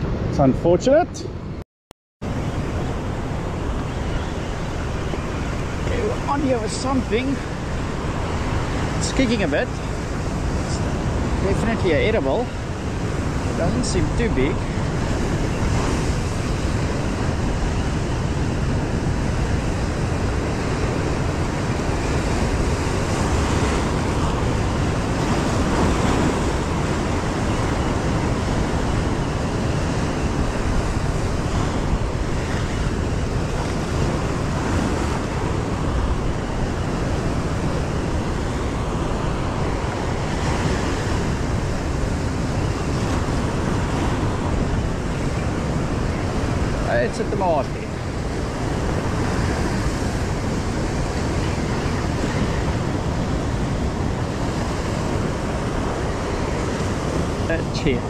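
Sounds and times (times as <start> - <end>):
wind buffeting microphone: 2.2 - 58.0.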